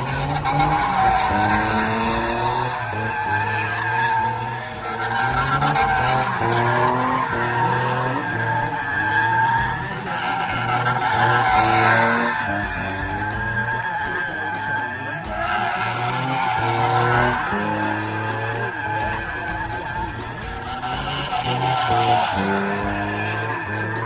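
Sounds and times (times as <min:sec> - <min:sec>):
car engine revving: 0:00.0 - 0:24.0
tyres squealing: 0:00.0 - 0:24.0.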